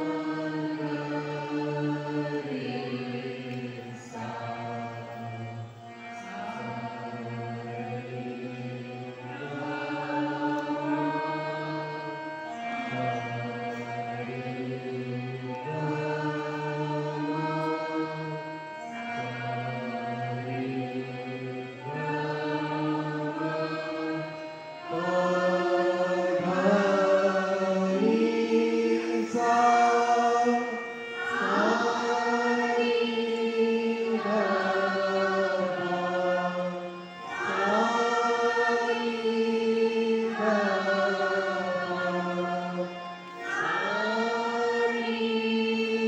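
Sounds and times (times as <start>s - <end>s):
faint steady drone: 0.0s - 46.0s
person singing sliding notes: 0.0s - 46.0s.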